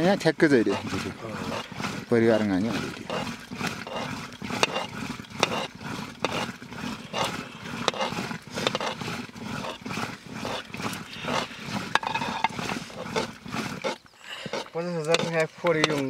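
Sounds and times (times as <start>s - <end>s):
wooden stick scraping a pot: 0.0s - 16.0s.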